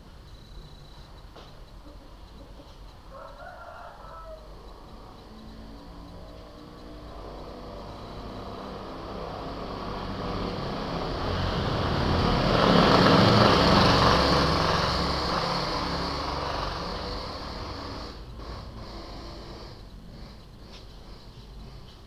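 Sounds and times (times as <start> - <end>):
motor vehicle passing by: 3.4 - 22.0.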